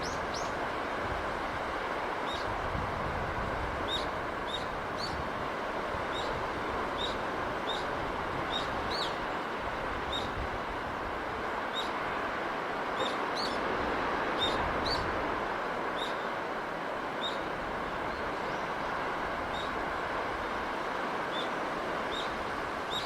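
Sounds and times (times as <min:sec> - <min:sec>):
sea rushing: 0:00.0 - 0:23.0.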